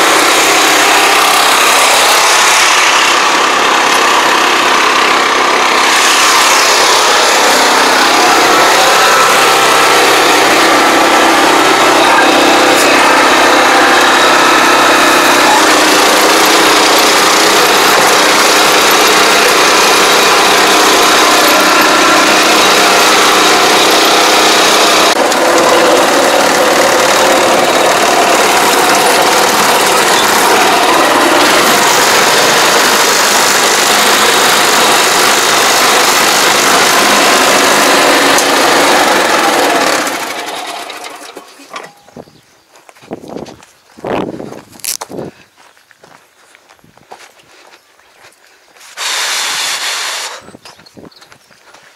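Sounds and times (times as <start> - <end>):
small engine running with clatter: 0.0 - 42.4, 44.6 - 51.9.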